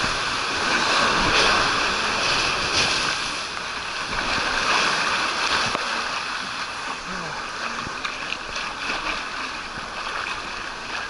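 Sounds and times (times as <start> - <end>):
water rushing down slide: 0.0 - 11.0
water splashing: 0.0 - 11.0.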